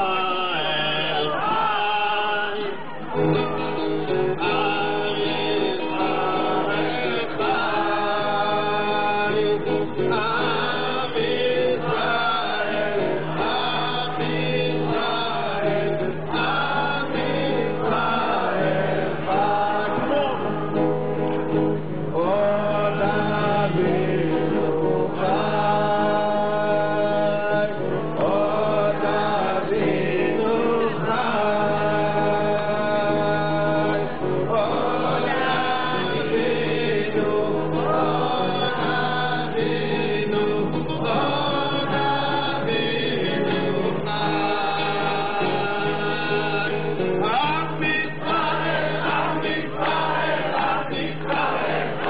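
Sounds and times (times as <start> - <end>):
choir singing: 0.0 - 20.2, 22.2 - 52.0.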